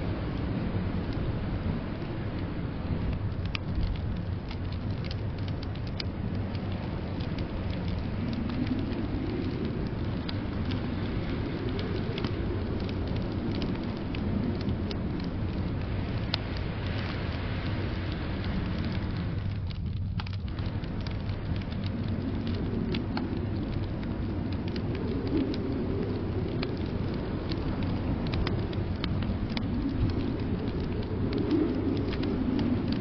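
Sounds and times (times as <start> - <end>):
blizzard wind rushing: 0.0 - 33.0
fireplace crackling and popping: 0.0 - 33.0.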